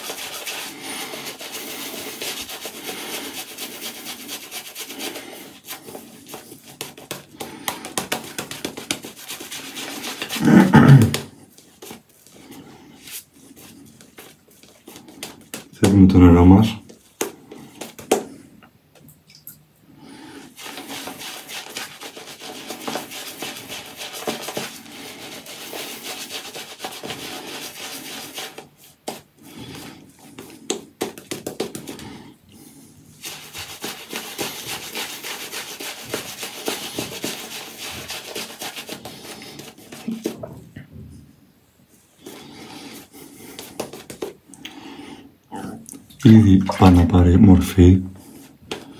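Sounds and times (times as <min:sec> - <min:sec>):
shaving brush rubbing lather: 0:00.0 - 0:12.4, 0:13.0 - 0:18.2, 0:20.4 - 0:40.4, 0:42.2 - 0:44.4, 0:46.4 - 0:48.8.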